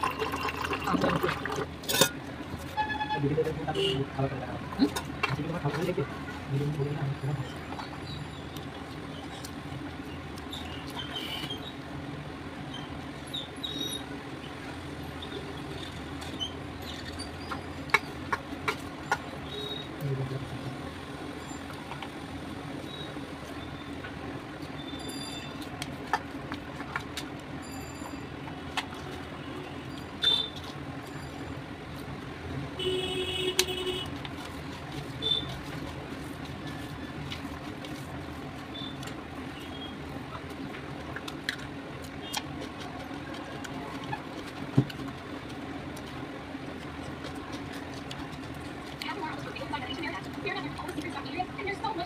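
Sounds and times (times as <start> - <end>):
steady background hum: 0.0 - 52.0.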